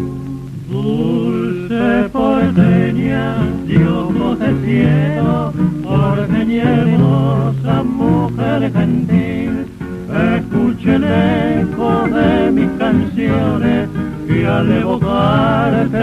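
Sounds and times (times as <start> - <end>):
guitar accompaniment: 0.0 - 16.0
man singing with vibrato: 0.6 - 16.0.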